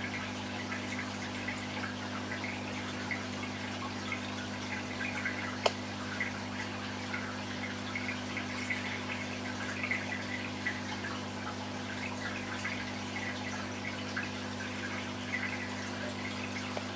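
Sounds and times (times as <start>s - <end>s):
aquarium filter humming: 0.0s - 16.9s
water trickling and dripping: 0.0s - 16.9s.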